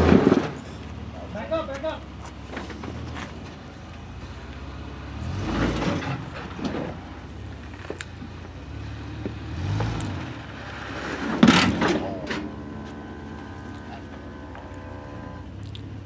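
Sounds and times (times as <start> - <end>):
engine running at crawling speed: 0.0 - 16.0.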